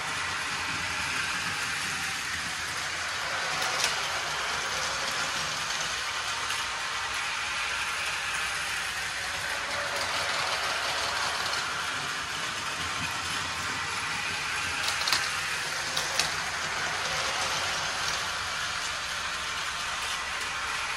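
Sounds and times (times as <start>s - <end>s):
toy train motors whirring: 0.0s - 20.9s
wheels rattling over plastic track: 0.0s - 20.9s.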